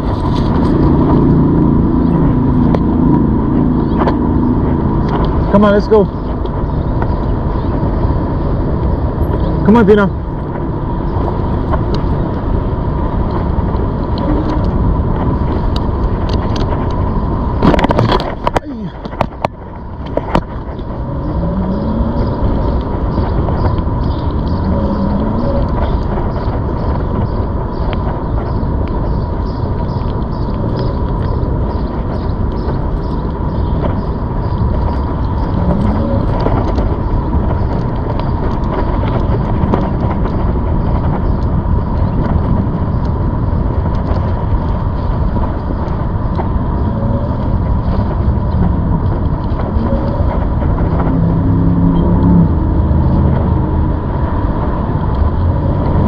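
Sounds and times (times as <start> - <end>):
wind and riding noise: 0.0 - 56.0.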